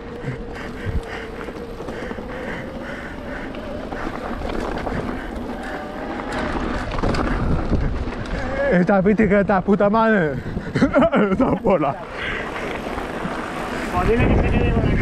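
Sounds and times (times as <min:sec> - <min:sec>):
bike buzzing: 0:00.0 - 0:15.0
tyres rolling over gravel: 0:00.0 - 0:15.0
wind rumbling on microphone: 0:00.0 - 0:15.0.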